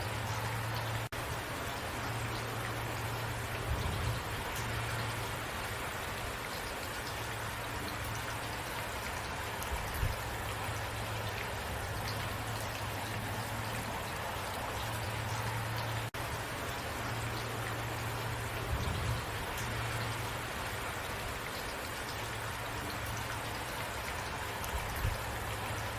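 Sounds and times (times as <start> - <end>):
raindrops ticking: 0.0 - 25.9
steady rain: 0.0 - 25.9.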